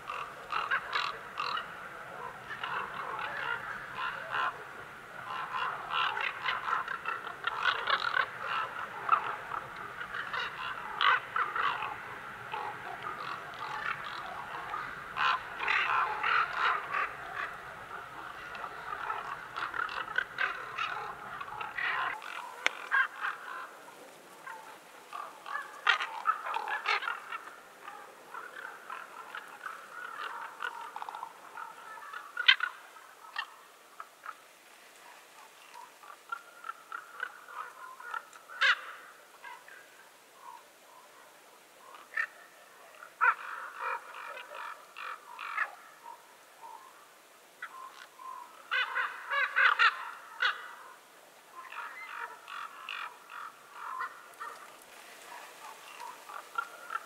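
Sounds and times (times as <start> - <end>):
corvids calling: 0.0 - 57.0.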